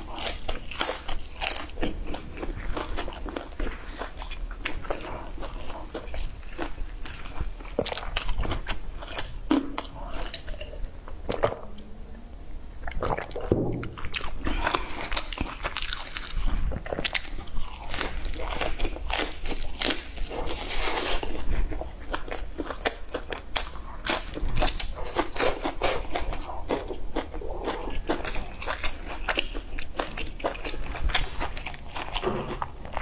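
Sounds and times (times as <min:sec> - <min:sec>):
person chewing crunchy food: 0:00.0 - 0:11.8, 0:12.8 - 0:33.0.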